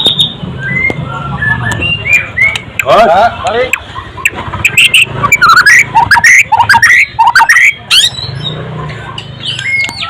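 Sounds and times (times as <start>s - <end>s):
bird singing whistled notes: 0.0s - 8.6s, 9.4s - 10.0s.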